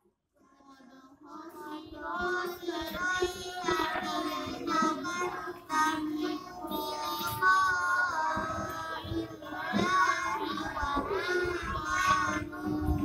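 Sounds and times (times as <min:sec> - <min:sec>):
person chanting verses: 0:00.7 - 0:13.0.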